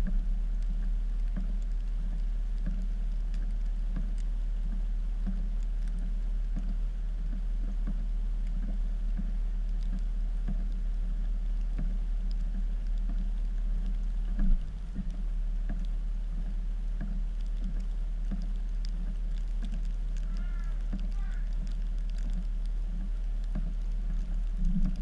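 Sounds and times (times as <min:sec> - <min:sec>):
light clicks: 0:00.0 - 0:25.0.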